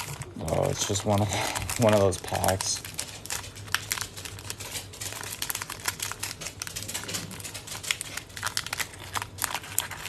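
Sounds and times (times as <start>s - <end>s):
wrapper crinkling: 0.0s - 10.0s.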